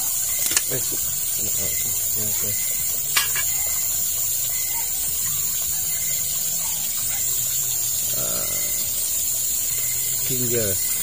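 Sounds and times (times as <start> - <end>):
onion and garlic sizzling: 0.0 - 11.0.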